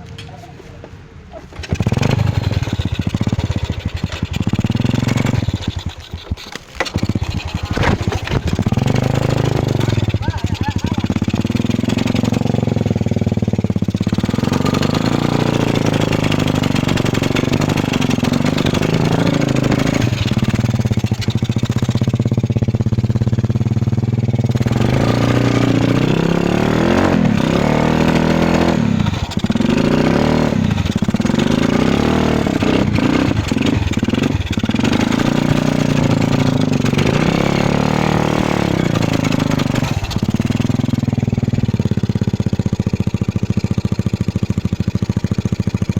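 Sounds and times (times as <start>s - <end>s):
tractor engine revving: 1.4s - 45.9s.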